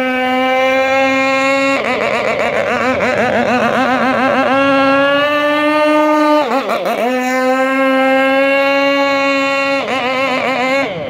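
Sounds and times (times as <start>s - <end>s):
high-pitched model boat engine: 0.0s - 11.0s.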